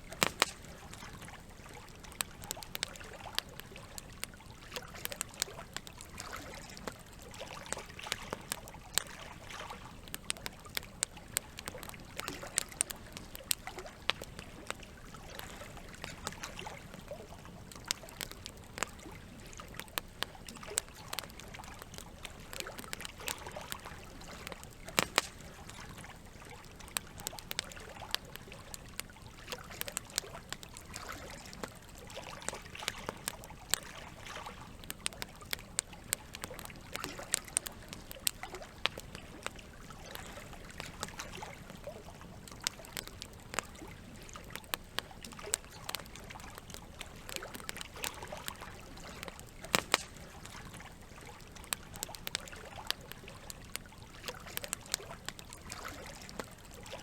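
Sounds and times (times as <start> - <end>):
campfire crackling and popping: 0.0 - 57.0
running water trickling: 0.0 - 57.0.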